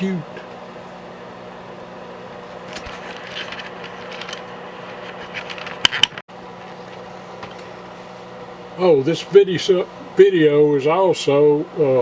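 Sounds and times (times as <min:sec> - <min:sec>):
fan hum: 0:00.0 - 0:12.0.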